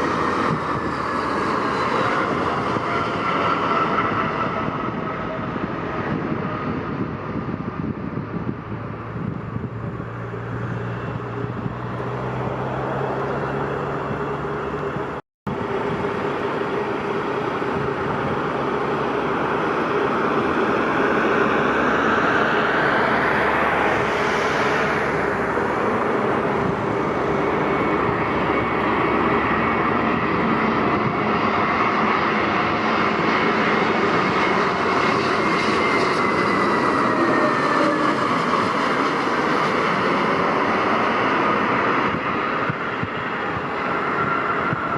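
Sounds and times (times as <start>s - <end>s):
jet engines roaring past: 0.0s - 44.9s.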